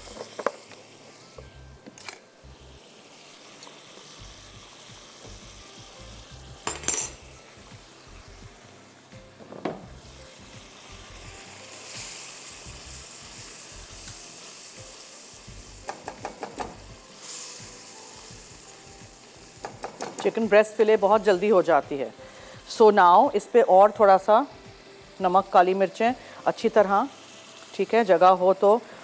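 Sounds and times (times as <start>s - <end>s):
chicken sizzling in a frying pan: 0.0s - 29.0s.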